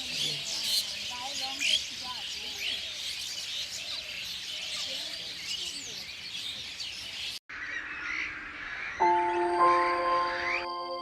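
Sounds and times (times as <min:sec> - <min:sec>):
birds chirping and calling: 0:00.0 - 0:11.0.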